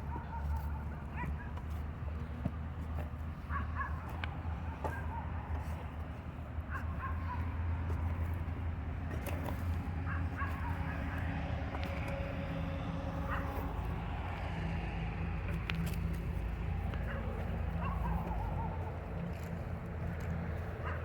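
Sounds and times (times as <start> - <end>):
low background rumble: 3.1 - 21.0.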